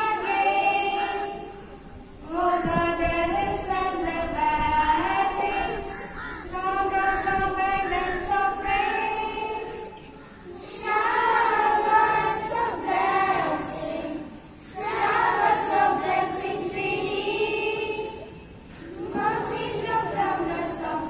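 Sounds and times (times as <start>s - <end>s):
girls singing together: 0.0s - 21.0s.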